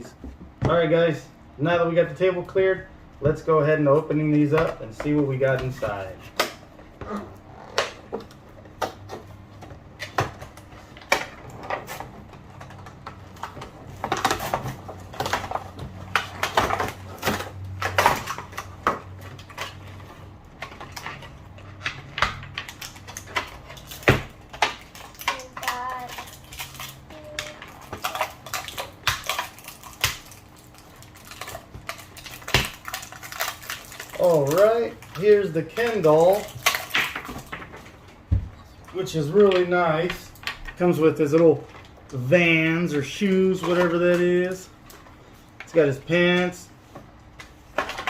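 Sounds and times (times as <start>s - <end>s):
plastic and cardboard packaging rattling: 2.0s - 46.8s, 47.4s - 48.0s.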